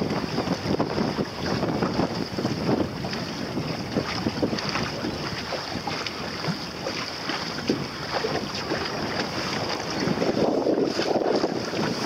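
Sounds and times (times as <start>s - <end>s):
water slapping against boat hull: 0.0s - 12.0s
wind buffeting microphone: 0.0s - 12.0s.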